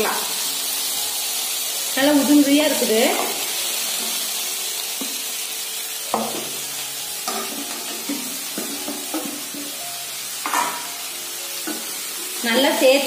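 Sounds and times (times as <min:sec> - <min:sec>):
food sizzling in a hot pan: 0:00.0 - 0:13.0.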